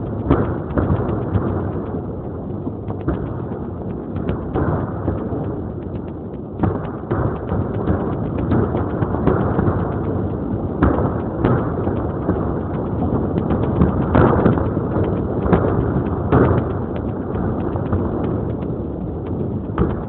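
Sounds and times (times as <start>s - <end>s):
fireworks booms: 0.0s - 20.0s
fireworks crackling barrage: 0.0s - 20.0s.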